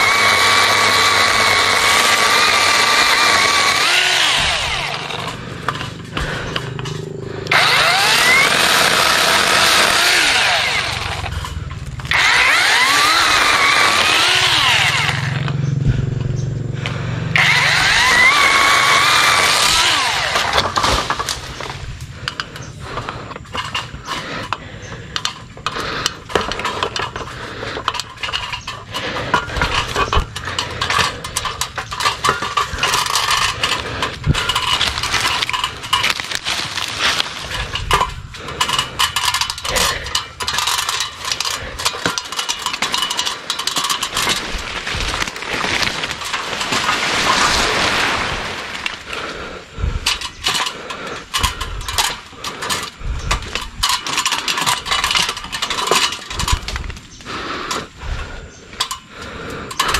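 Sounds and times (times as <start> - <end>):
electric chainsaw cutting branches: 0.0 - 59.9
rattling and clattering: 0.0 - 59.9.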